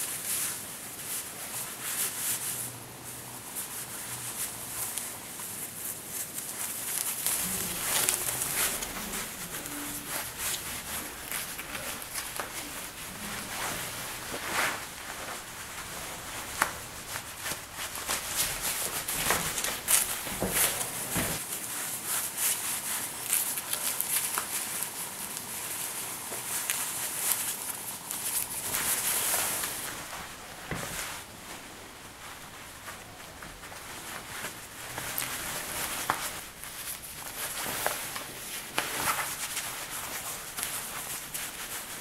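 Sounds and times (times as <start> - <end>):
fabric swishing and rubbing: 0.0 - 42.0.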